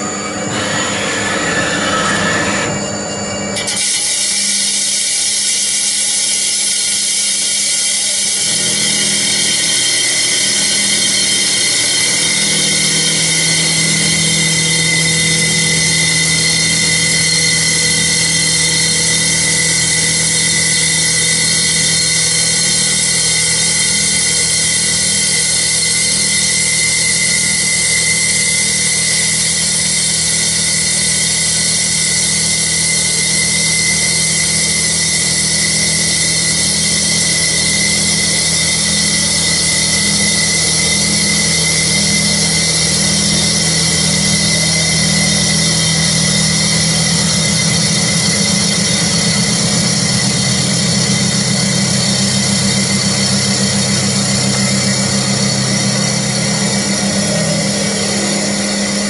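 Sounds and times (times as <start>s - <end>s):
lathe machine hum and whine: 0.0s - 59.0s.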